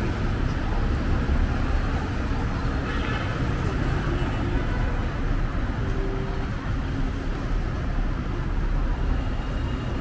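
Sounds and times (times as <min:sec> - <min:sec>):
traffic on wet road: 0:00.0 - 0:10.0.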